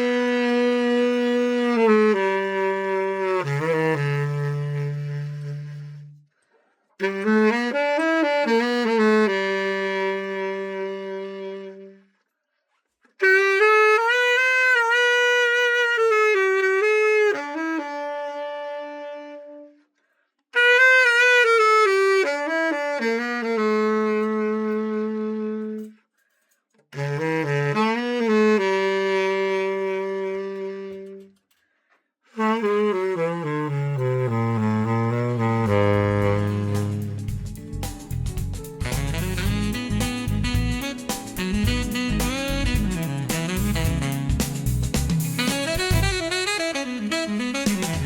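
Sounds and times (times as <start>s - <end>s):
tenor saxophone long notes: 0.0s - 12.2s, 13.2s - 19.9s, 20.5s - 26.0s, 26.9s - 31.6s, 32.3s - 38.2s, 38.8s - 48.0s.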